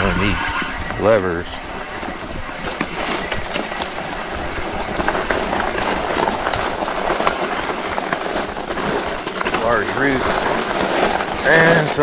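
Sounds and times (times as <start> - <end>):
bike rattling on dirt trail: 0.0 - 12.0.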